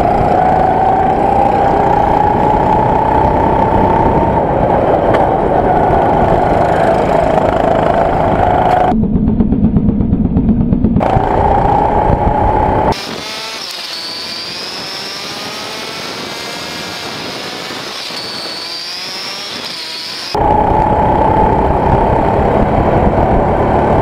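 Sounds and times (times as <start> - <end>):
go-kart engine: 0.0 - 9.0, 9.7 - 24.0.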